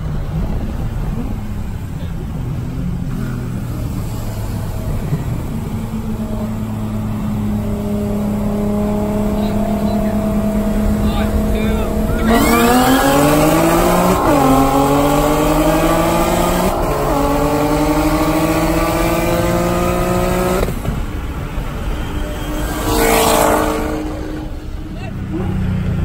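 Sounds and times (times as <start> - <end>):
car engine revving at full throttle: 0.0 - 26.0.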